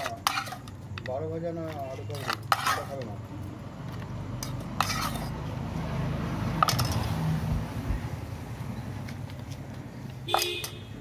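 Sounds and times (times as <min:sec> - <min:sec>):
low street hum: 0:00.0 - 0:11.0.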